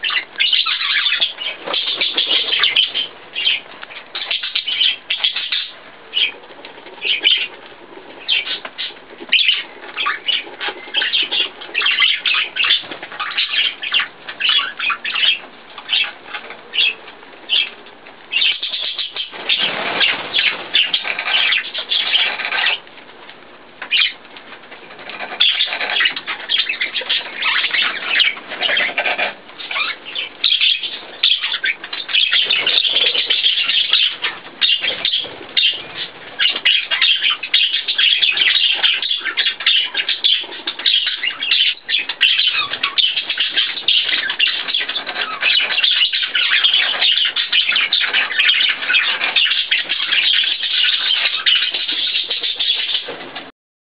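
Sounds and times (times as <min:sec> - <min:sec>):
budgerigars chattering and chirping: 0:00.0 - 0:22.8, 0:23.8 - 0:53.5.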